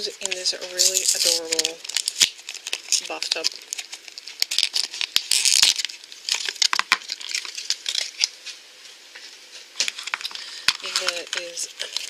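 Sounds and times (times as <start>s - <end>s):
plastic packaging crinkling: 0.0s - 8.6s, 9.8s - 12.0s.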